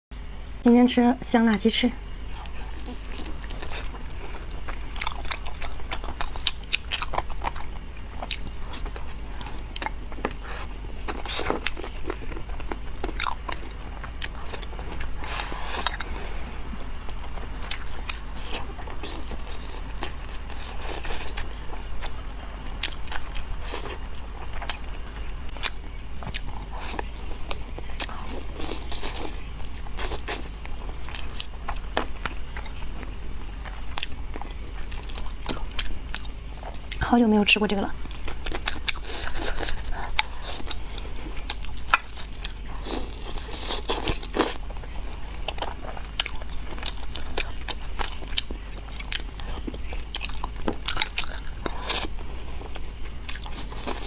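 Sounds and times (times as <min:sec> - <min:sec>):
steady low hum: 0:00.1 - 0:54.0
crunchy chewing: 0:02.0 - 0:37.0, 0:37.9 - 0:54.0.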